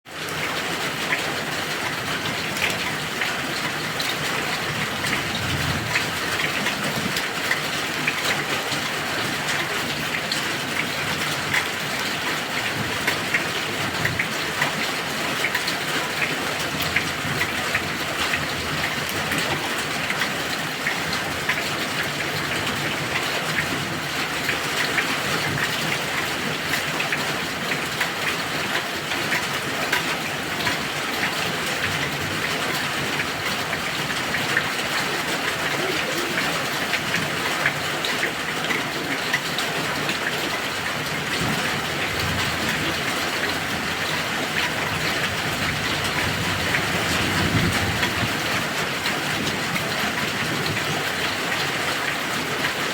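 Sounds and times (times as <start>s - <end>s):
heavy rain falling: 0.1s - 52.9s.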